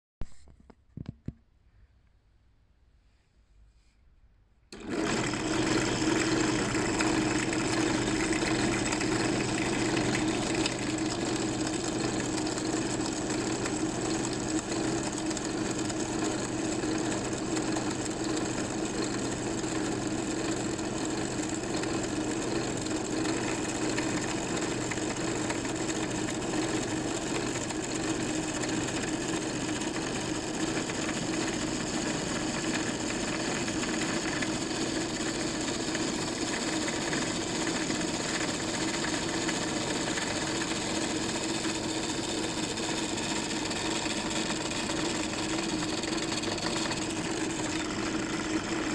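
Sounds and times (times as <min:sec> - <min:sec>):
power drill boring: 0:04.8 - 0:48.9.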